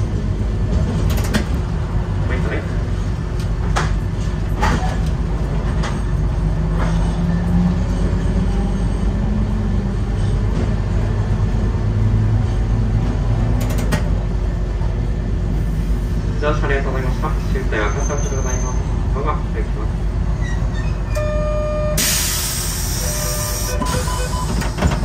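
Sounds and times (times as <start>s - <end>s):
streetcar motor hum: 0.0s - 25.0s
wheels rumbling on rail: 0.0s - 25.0s.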